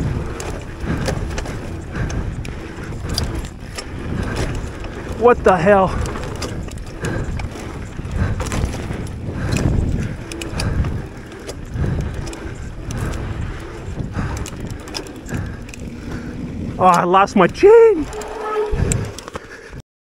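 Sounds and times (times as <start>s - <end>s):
bike rattling and clicking: 0.0s - 19.8s
bike tyres rumbling on dirt: 0.0s - 19.8s.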